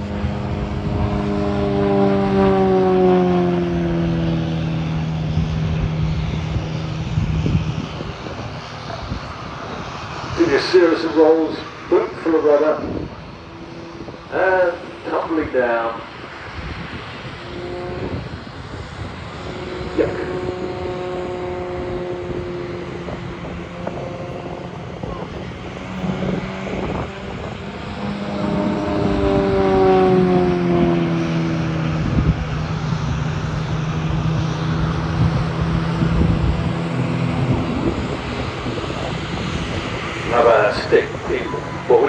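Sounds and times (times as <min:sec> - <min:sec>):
propeller aircraft engine overhead: 0:00.0 - 0:42.0.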